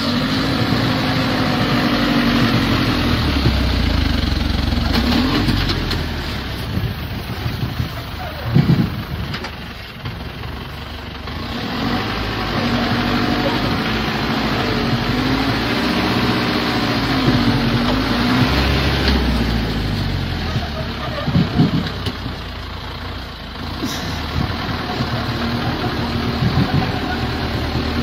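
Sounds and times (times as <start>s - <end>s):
truck engine labouring: 0.0s - 28.0s.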